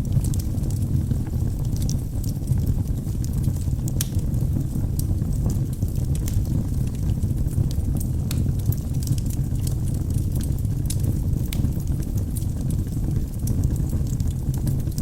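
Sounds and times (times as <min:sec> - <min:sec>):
fire crackles and pops: 0:00.0 - 0:15.0
fire flames rushing: 0:00.1 - 0:15.0.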